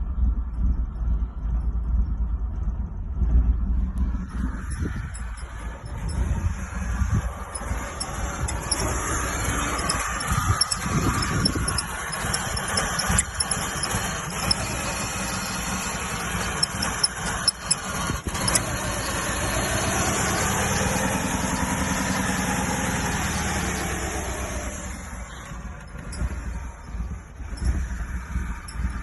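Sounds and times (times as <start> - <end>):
car engine cranking unevenly: 0.0 - 29.0
engine squeal: 0.0 - 29.0.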